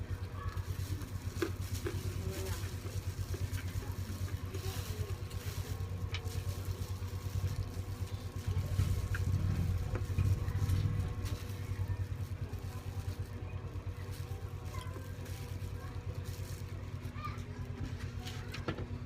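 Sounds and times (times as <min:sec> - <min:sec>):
low buzzing hum: 0:00.0 - 0:19.0.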